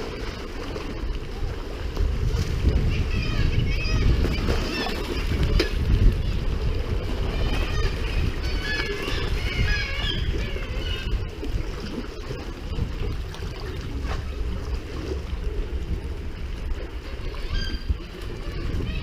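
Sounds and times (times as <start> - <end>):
water sloshing around kayak: 0.0 - 19.0
wind buffeting microphone: 0.0 - 19.0.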